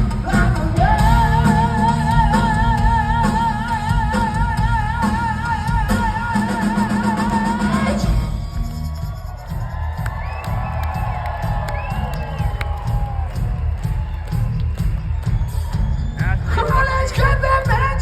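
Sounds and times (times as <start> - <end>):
live rock band: 0.0 - 18.0.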